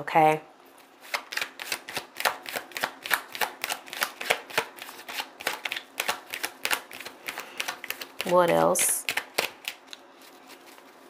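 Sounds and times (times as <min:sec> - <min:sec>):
cards being shuffled: 0:01.0 - 0:11.0.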